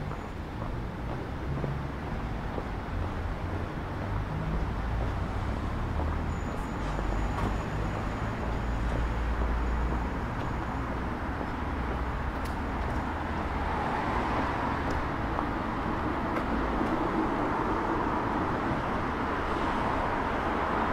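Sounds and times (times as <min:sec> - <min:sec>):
road traffic rumble: 0:00.0 - 0:20.9.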